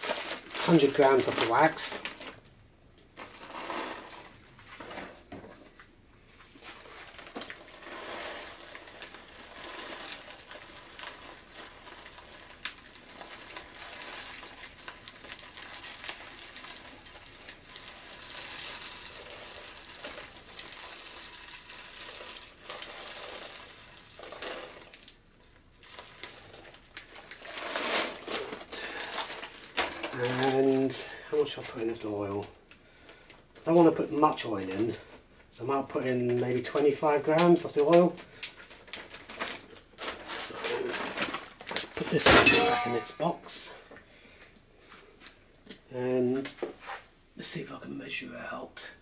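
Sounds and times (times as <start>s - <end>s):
wax pellets pattering into tin can: 0.0s - 2.4s, 6.5s - 43.9s
plastic bag rustling: 0.0s - 45.4s.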